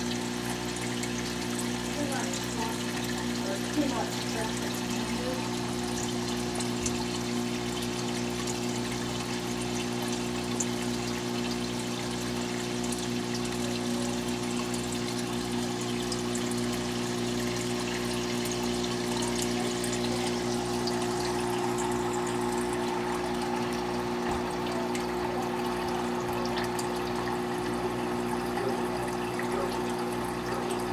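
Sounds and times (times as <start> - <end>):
aquarium water pumps humming: 0.0 - 30.9
water trickling and splashing: 0.0 - 30.9.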